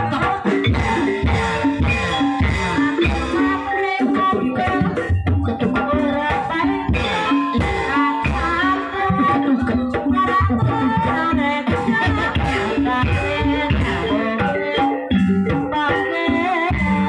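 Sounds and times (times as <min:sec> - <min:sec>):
person singing: 0:00.0 - 0:01.7, 0:02.6 - 0:17.0
hand drums beating: 0:00.0 - 0:17.0
ringing pitched percussion: 0:00.0 - 0:17.0.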